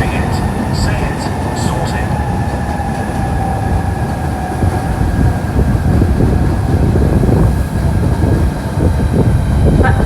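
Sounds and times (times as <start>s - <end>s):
electric train passing: 0.0s - 10.0s.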